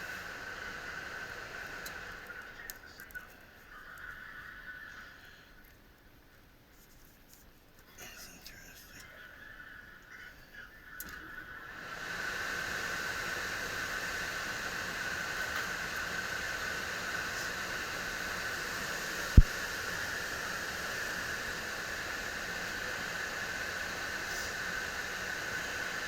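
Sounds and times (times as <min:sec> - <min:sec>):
fan running with airy hiss: 0:00.0 - 0:26.0.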